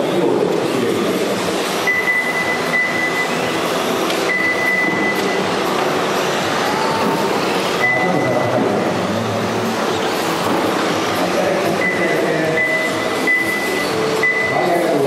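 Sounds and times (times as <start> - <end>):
high motor whine: 0.0 - 15.0.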